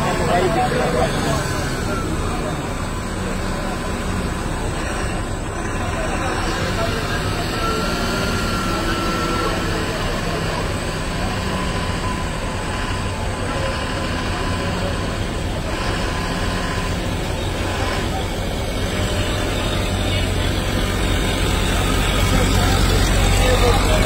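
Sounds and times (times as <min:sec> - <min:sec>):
heavy vehicle engine running: 0:00.0 - 0:24.0
vehicle driving through floodwater: 0:00.0 - 0:24.0.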